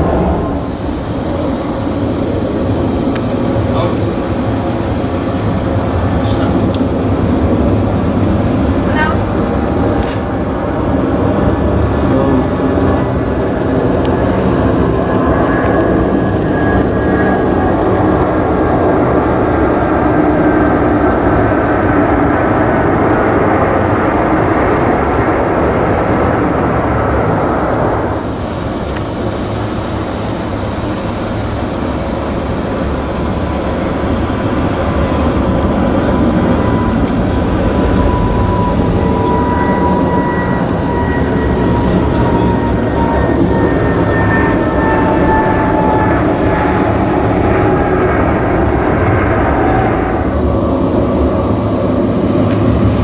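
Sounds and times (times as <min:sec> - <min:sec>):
jet engines dull rumble: 0:00.0 - 0:53.0
jet engines rumbling with whine: 0:00.0 - 0:53.0.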